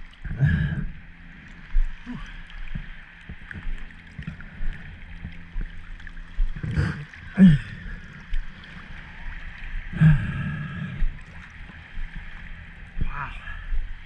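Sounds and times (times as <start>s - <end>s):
water washing and gurgling: 0.0s - 14.0s.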